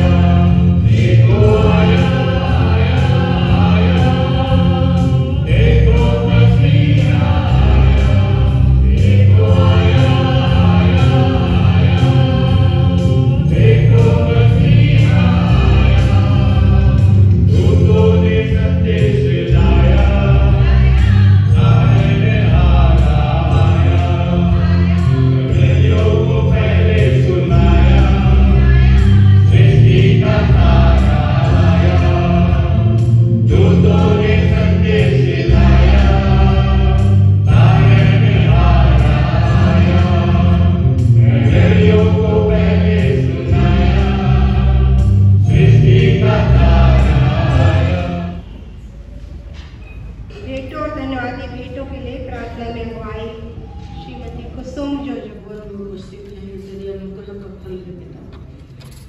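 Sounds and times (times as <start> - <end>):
choir singing a hymn: 0.0 - 49.3
steady low notes: 0.0 - 49.5.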